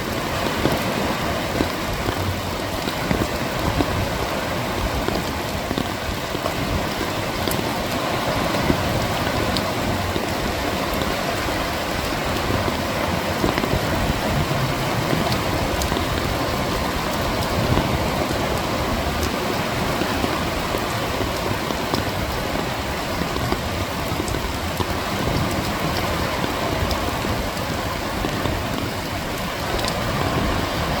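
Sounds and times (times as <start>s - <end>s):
rain hiss: 0.0s - 31.0s
waves washing: 0.0s - 31.0s.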